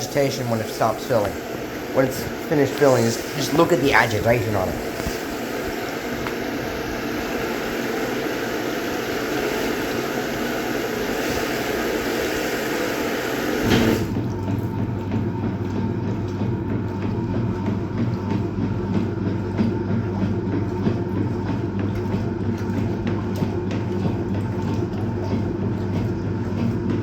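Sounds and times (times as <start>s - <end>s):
wash water churning: 0.0s - 27.0s
washing machine filling with water: 0.0s - 27.0s
washing machine motor hum: 0.0s - 27.0s.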